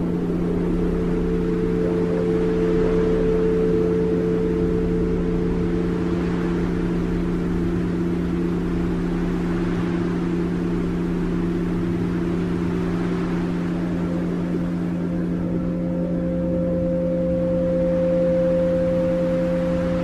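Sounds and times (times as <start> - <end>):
low electronic drone: 0.0 - 20.0.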